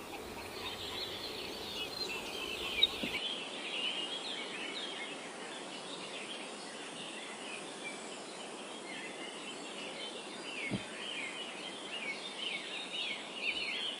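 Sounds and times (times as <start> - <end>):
small birds chirping: 0.0 - 14.0
steady background hiss: 0.0 - 14.0.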